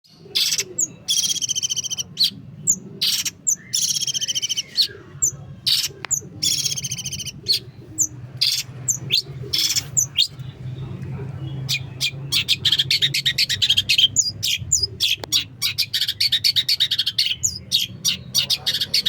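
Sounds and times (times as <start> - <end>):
shrike singing: 0.1 - 19.0.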